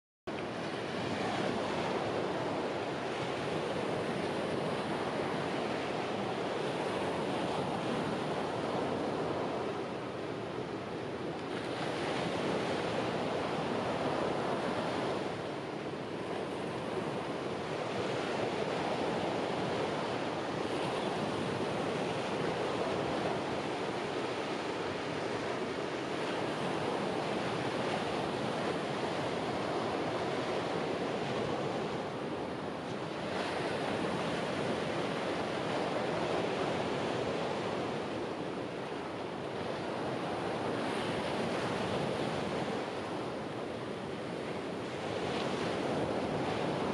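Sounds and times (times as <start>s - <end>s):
ocean surf breaking on shore: 0.3s - 46.9s.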